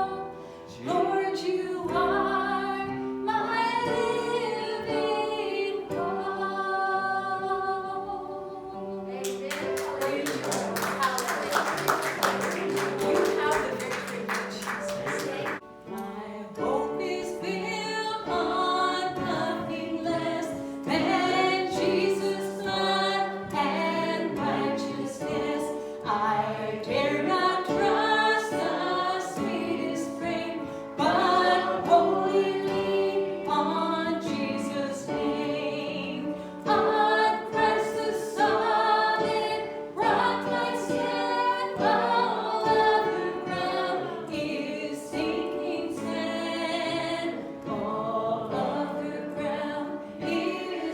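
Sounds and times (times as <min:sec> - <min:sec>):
congregation singing a hymn: 0:00.0 - 0:50.9.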